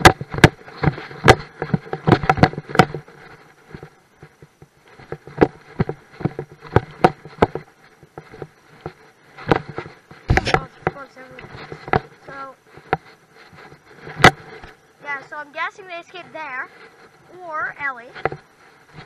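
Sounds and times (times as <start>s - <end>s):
footsteps on dirt path: 0.0s - 19.0s.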